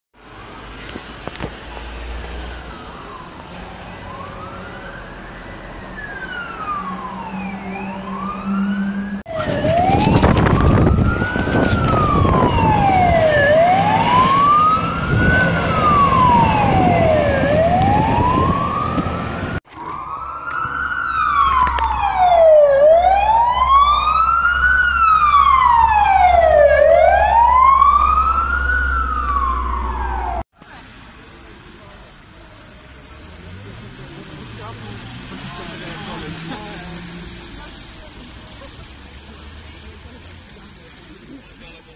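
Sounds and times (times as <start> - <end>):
fire engine rumble: 0.3 - 41.9
emergency sirens wailing: 1.4 - 30.5, 33.2 - 39.3.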